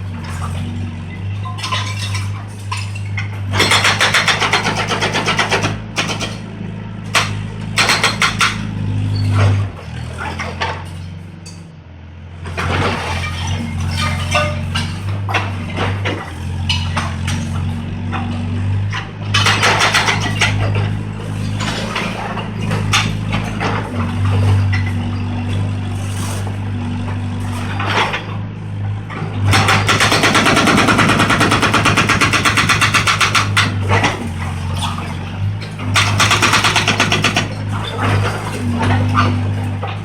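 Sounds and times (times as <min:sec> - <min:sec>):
concrete clattering and crashing: 0:00.0 - 0:06.4, 0:07.1 - 0:11.6, 0:12.5 - 0:40.0
excavator diesel engine: 0:00.0 - 0:40.0.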